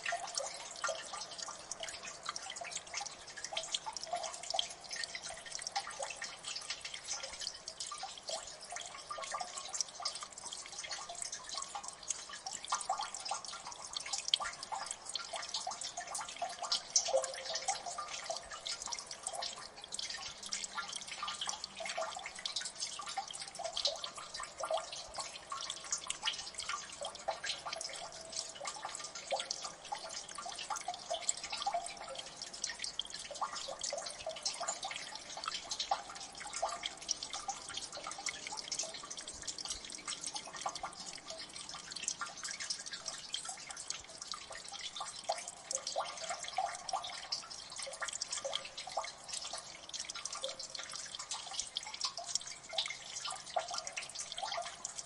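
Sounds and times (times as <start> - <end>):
water drops plinking into water: 0.0 - 55.0.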